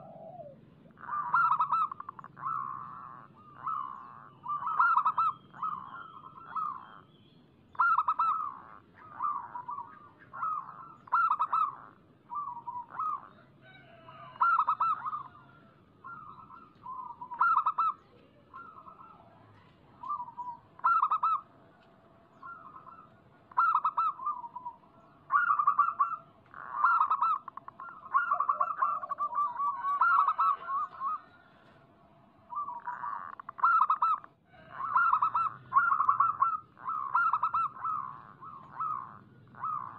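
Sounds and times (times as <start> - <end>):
dove cooing: 0.0 - 7.1, 7.7 - 39.9.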